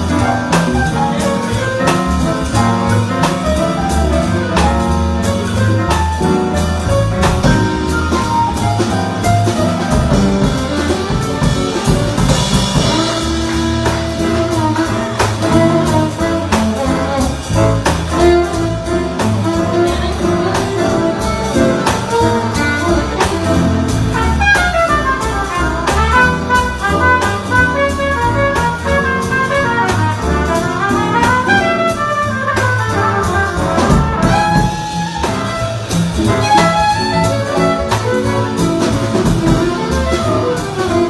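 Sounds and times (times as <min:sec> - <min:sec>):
instrumental jazz music: 0:00.0 - 0:41.0.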